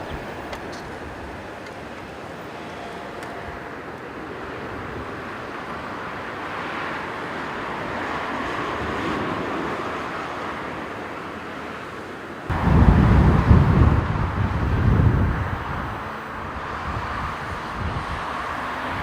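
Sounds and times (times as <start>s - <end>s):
wind rumbling on microphone: 0.0s - 11.9s, 12.5s - 19.0s
airliner jet engine: 0.0s - 19.0s.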